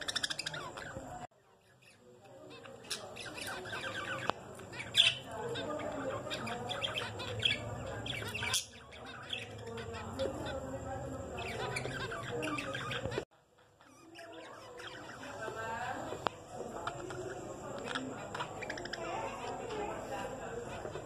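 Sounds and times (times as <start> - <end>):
finches chirping: 0.0 - 21.0.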